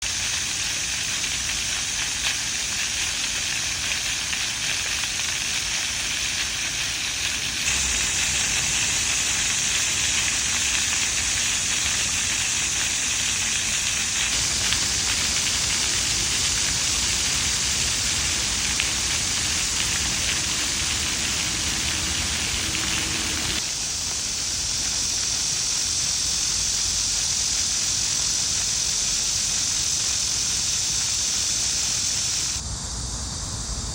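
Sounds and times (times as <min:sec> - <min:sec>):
fountain water splashing: 0:00.0 - 0:32.6.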